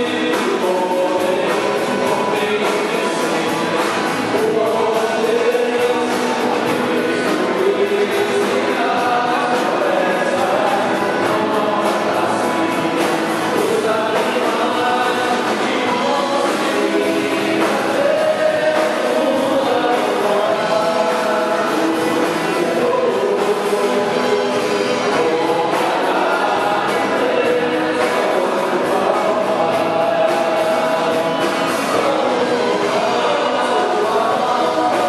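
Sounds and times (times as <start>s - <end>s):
choir singing gospel song: 0.0s - 35.0s.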